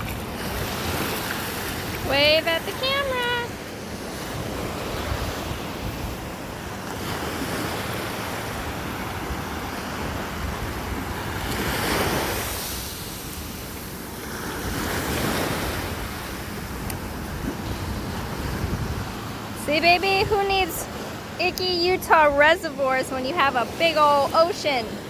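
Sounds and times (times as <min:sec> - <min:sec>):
waves breaking: 0:00.0 - 0:25.0
wind buffeting microphone: 0:00.0 - 0:25.0.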